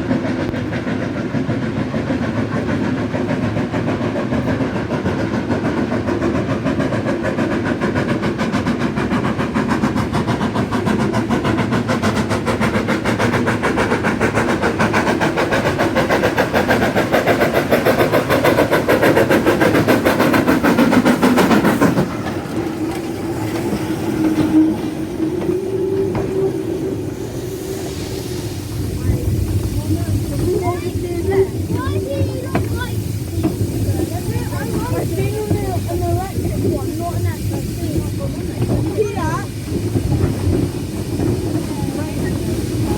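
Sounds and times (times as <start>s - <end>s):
locomotive passing with even beat: 0.0s - 42.9s.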